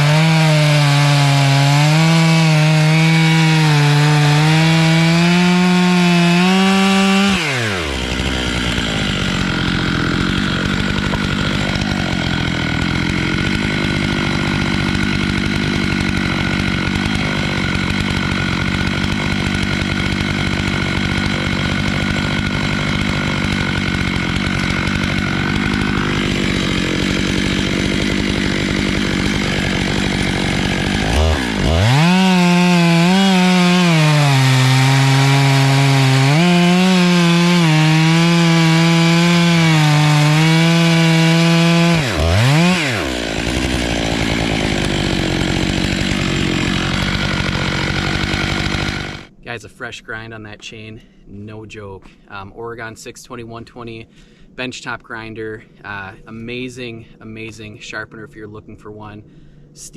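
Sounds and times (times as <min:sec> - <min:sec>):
chainsaw cutting wood: 0:00.0 - 0:49.4.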